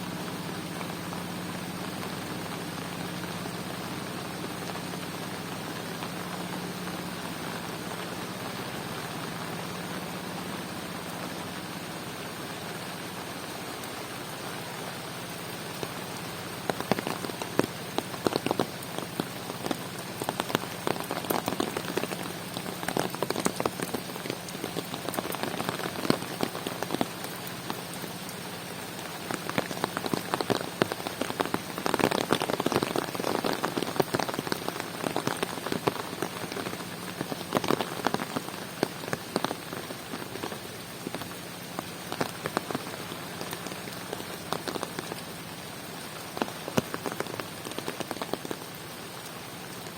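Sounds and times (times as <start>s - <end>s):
close raindrop hits: 0.0s - 49.9s
steady rain falling: 0.0s - 49.9s.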